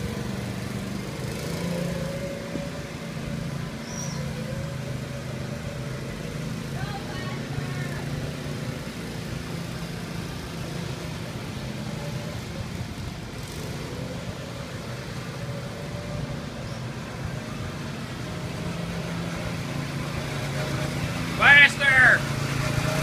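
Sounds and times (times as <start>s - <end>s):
go-kart engine running: 0.0s - 23.0s.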